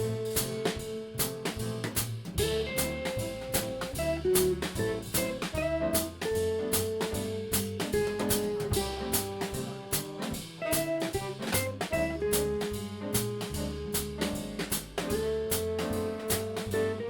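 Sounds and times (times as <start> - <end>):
drum kit cymbal and drum hits: 0.0 - 17.0
live jazz band playing: 0.0 - 17.0.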